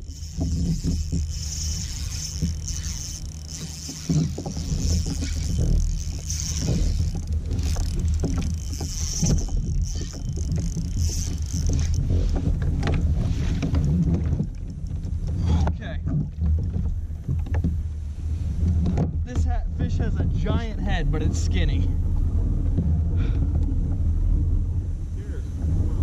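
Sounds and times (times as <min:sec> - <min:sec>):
water moving around kayak: 0:00.0 - 0:26.0
wind rumbling on microphone: 0:00.0 - 0:26.0.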